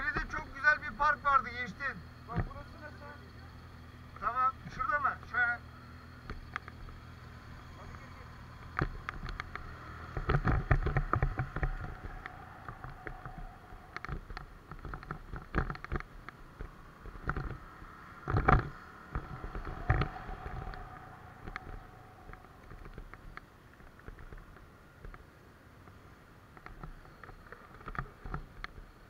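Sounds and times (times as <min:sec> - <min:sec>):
knocks and rattles over bumps: 0:00.0 - 0:07.3, 0:08.0 - 0:29.0
motorcycle engine hum: 0:00.0 - 0:29.0.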